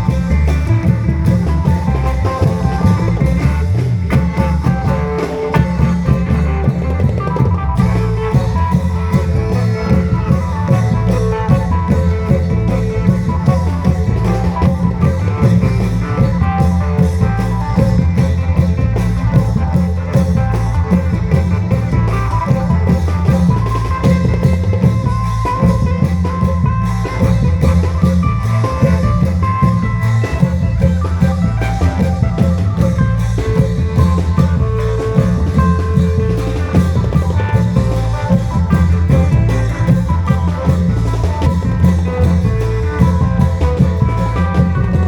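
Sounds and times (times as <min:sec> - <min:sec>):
long drums beating: 0:00.0 - 0:45.0
mouth organ melody: 0:00.0 - 0:45.0.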